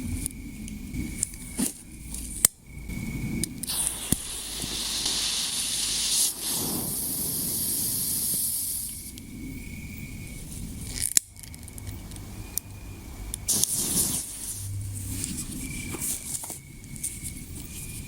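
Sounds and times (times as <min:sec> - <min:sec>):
pyrotechnic composition hissing: 0:00.0 - 0:18.0.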